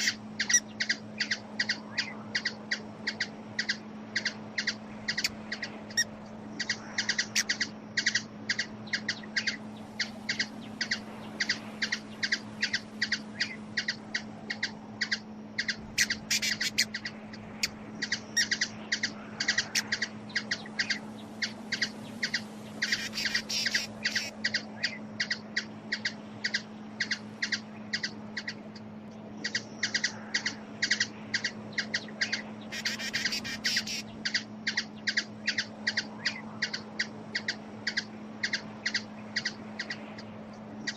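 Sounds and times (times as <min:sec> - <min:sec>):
hummingbird chip calls: 0:00.0 - 0:40.9
steady low hum: 0:00.0 - 0:40.9.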